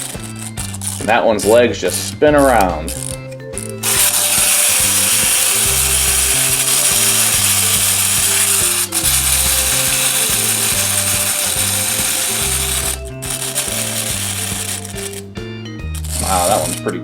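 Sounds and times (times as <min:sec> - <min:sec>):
clockwork toy gears whirring: 0:00.0 - 0:17.0.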